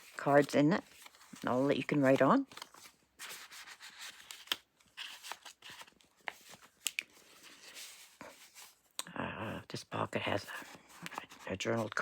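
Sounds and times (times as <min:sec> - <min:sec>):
paper rustling: 0:00.0 - 0:08.8, 0:10.4 - 0:12.0.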